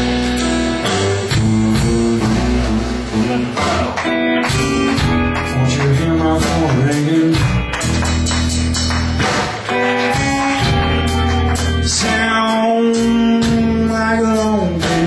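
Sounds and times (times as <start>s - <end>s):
blues band playing: 0.0s - 15.0s.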